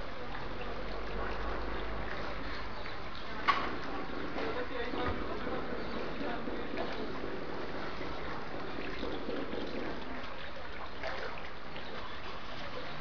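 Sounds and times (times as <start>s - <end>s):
pool water trickling and lapping: 0.0s - 13.0s.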